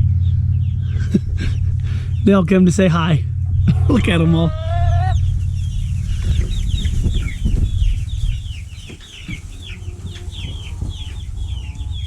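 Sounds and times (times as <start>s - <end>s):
steady low rumble: 0.0s - 12.0s
chicks cheeping: 0.2s - 2.4s, 3.5s - 12.0s.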